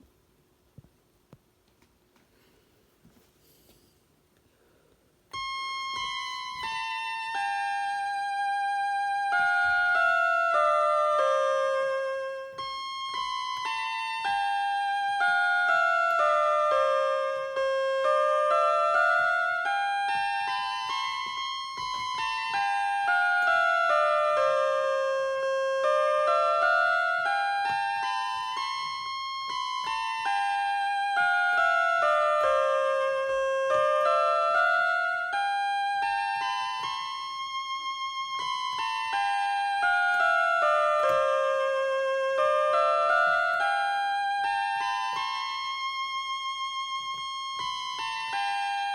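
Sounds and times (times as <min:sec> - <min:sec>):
electronic keyboard melody: 0:05.2 - 0:48.9.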